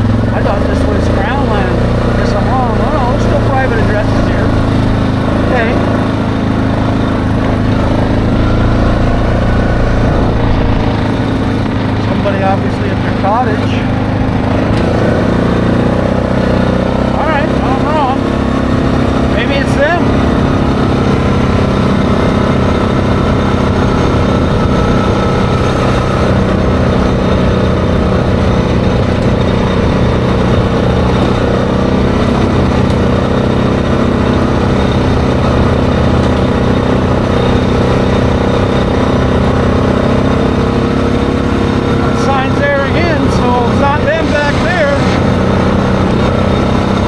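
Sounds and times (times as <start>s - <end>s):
atv engine running: 0.0s - 47.0s.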